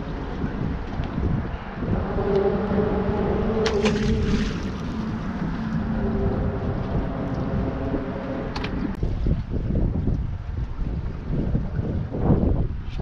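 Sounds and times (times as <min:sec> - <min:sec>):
rushing tidal water: 0:00.0 - 0:13.0
wind on microphone: 0:00.0 - 0:13.0.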